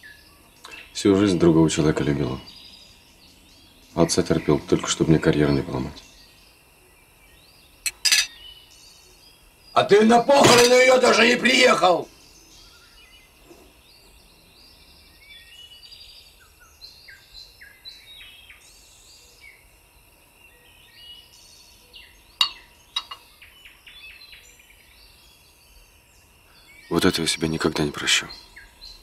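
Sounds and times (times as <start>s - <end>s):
faint birdsong chirps: 0.0s - 29.0s.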